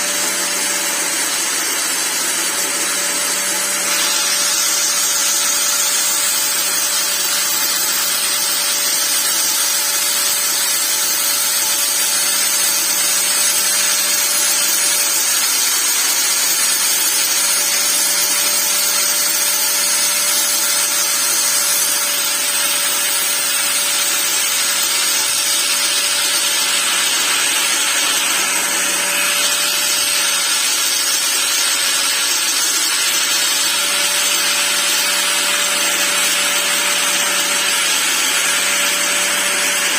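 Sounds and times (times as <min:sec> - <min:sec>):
angle grinder grinding: 0:00.0 - 0:39.9.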